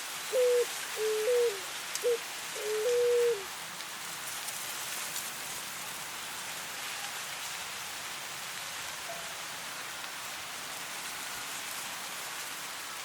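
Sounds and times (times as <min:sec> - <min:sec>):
wind rustling dry grass: 0:00.0 - 0:13.0.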